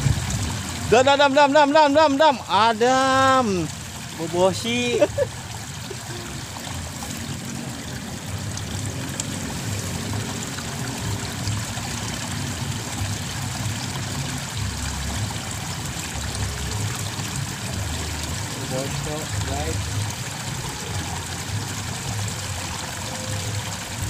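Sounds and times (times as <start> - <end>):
water flowing in a ditch: 0.0 - 24.0.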